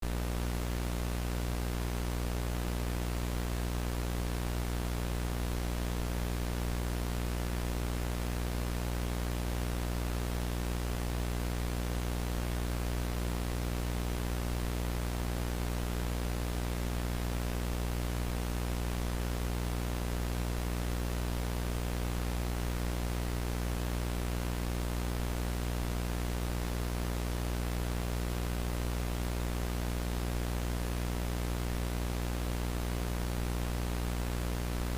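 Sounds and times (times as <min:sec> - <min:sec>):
tape static hiss: 0:00.0 - 0:34.9.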